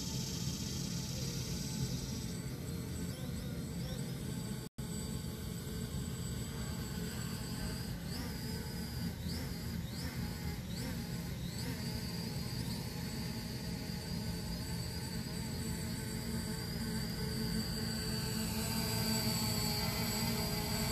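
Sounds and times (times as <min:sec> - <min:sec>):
drone propeller hum and whine: 0:00.0 - 0:20.9.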